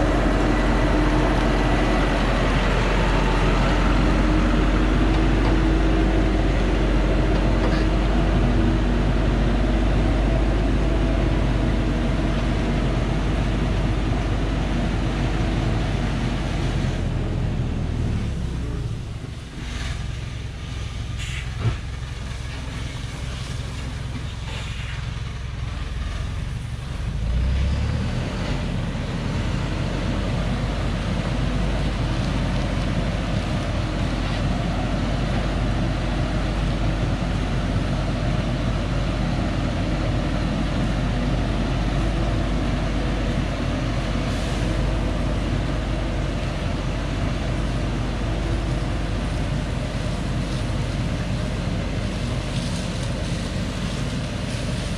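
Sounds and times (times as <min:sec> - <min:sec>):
diesel truck engine under load: 0:00.0 - 0:54.9.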